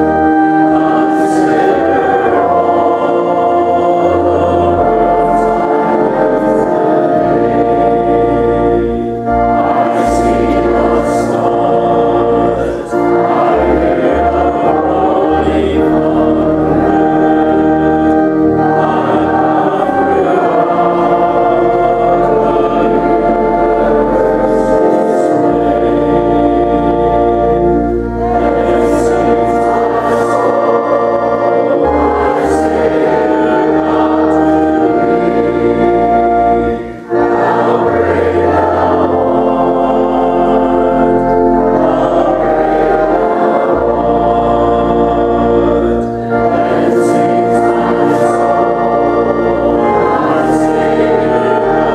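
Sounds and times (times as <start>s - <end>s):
choir singing church music: 0.0s - 51.9s
sustained low accompaniment: 0.0s - 51.9s.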